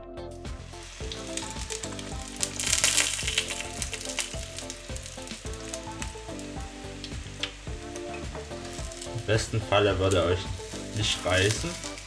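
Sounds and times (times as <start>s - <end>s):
background music with steady beat: 0.0s - 12.0s
crepe sizzling in hot oil: 0.5s - 12.0s.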